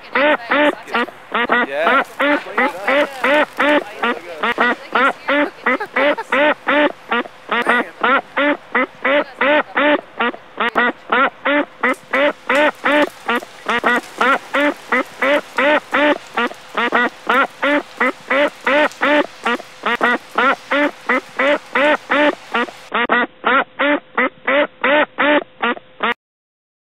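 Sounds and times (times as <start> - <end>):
ducks quacking: 0.0 - 26.2.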